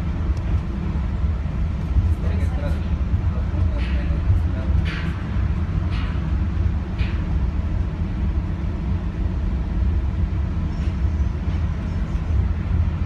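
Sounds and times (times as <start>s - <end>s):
shuttle train low rumble: 0.0s - 13.0s.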